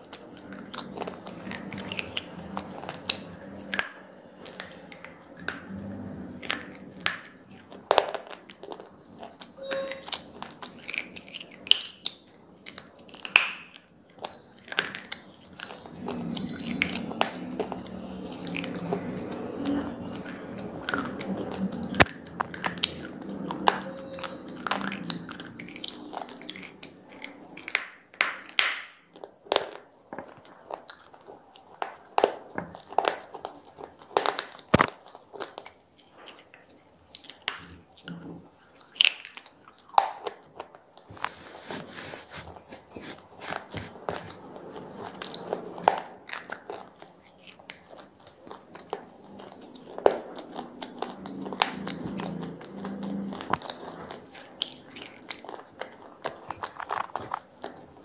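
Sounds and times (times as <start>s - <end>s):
slate crunching when chewed: 0.0s - 58.0s.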